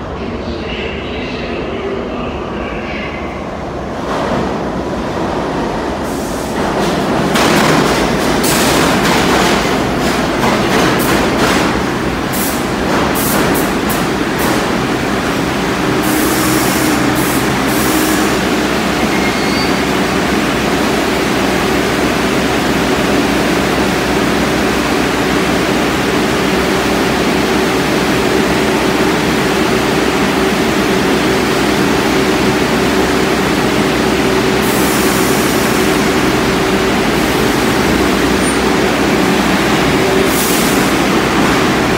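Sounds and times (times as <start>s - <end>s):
subway train clattering over rails: 0.0s - 41.9s
train equipment humming: 0.0s - 41.9s.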